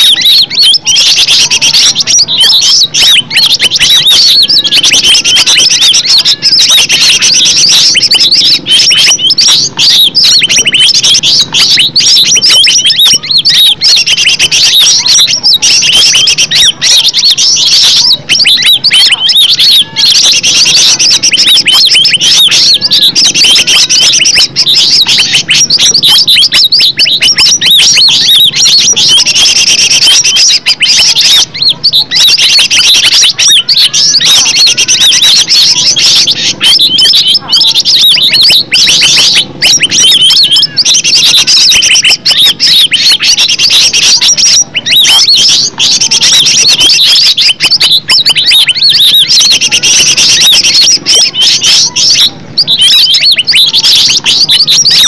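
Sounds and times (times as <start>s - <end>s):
bird singing chirps and trills: 0.0s - 55.0s.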